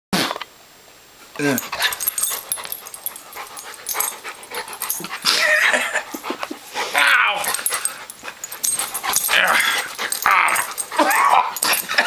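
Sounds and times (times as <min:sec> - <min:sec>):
dog play noises: 0:01.3 - 0:12.0.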